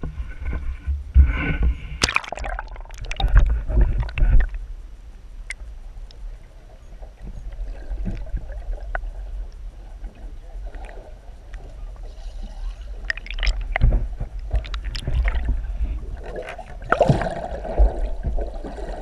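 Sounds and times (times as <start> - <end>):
water splashing and sloshing: 0.0 - 4.7, 7.2 - 19.0
muffled underwater hush: 0.0 - 19.0.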